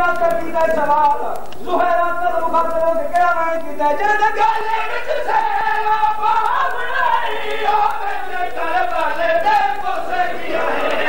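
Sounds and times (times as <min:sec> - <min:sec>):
man singing a lament: 0:00.0 - 0:11.0.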